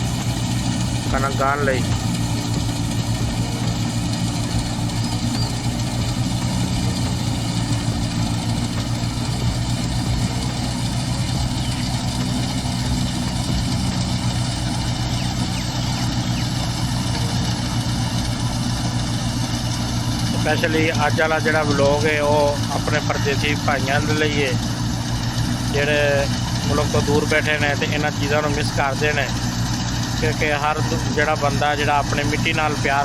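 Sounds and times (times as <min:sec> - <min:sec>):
thresher rushing noise: 0:00.0 - 0:33.0
tractor engine humming: 0:00.0 - 0:33.0.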